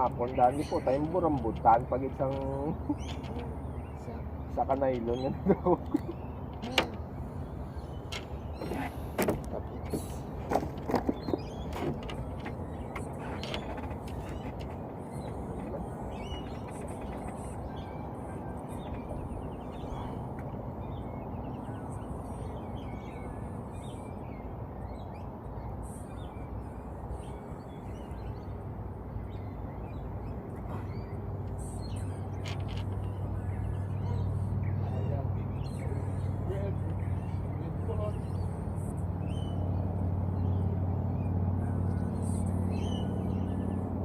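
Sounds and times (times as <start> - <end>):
birds chirping and trilling: 0.0 - 44.0
low outdoor rumble: 0.0 - 44.0.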